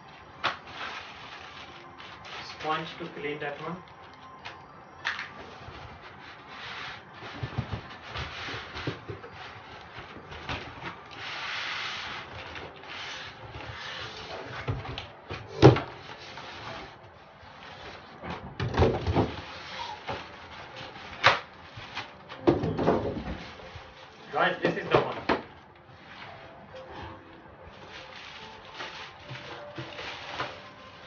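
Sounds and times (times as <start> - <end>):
packaging rustling and scraping: 0.0 - 31.0.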